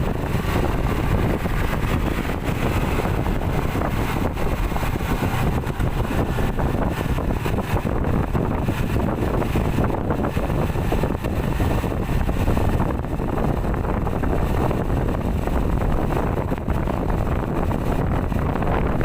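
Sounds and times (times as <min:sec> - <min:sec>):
traffic engine rumble: 0:00.0 - 0:19.0
wind buffeting microphone: 0:00.0 - 0:19.0.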